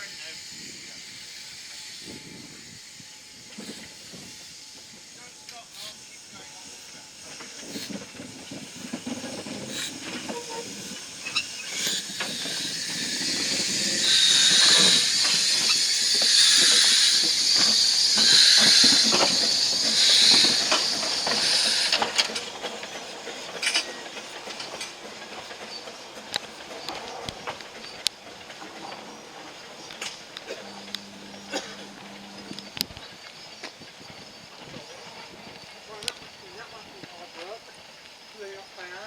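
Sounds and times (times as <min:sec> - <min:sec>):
steam locomotive hissing steam: 0:00.0 - 0:39.0.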